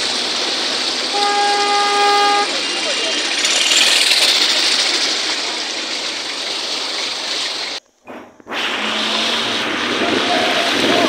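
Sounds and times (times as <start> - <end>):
floodwater rushing and splashing: 0.0 - 7.8, 8.6 - 11.0.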